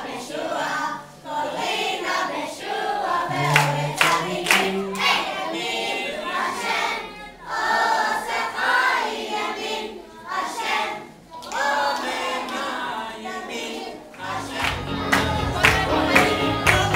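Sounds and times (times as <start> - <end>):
young children singing: 0.0 - 16.9.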